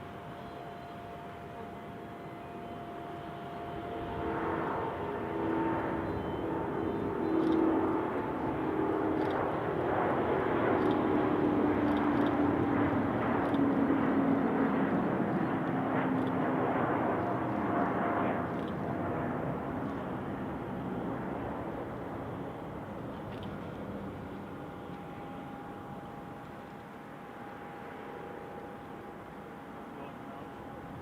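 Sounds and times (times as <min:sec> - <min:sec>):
jet engines at takeoff: 0:00.0 - 0:31.0.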